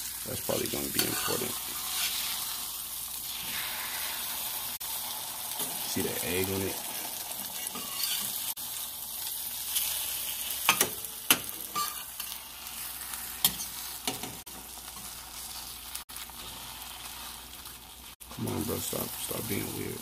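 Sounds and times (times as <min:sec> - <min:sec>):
bread sizzling in a pan: 0:00.0 - 0:20.0.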